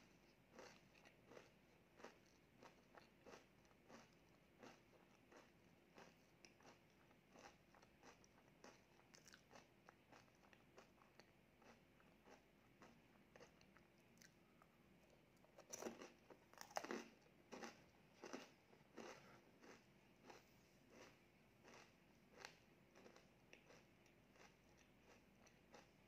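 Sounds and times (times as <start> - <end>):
chewing crisp wafer cone: 0.0 - 14.8, 15.4 - 26.0.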